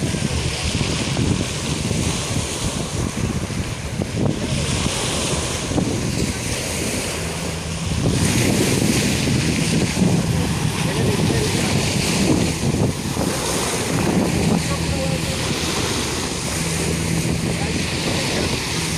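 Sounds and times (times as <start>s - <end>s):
waves breaking on pebble beach: 0.0s - 18.9s
wind buffeting microphone: 0.0s - 18.9s.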